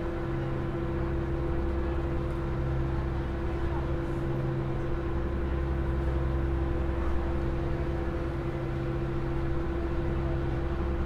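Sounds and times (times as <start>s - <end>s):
ferry engines droning: 0.0s - 11.0s.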